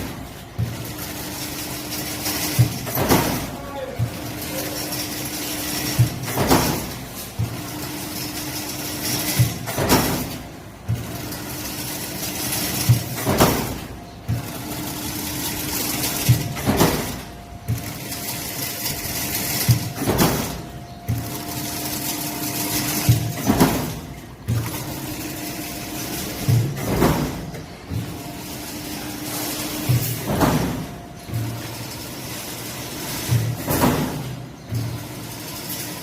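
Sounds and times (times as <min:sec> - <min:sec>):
weaving machine clatter and clicks: 0:00.0 - 0:36.0.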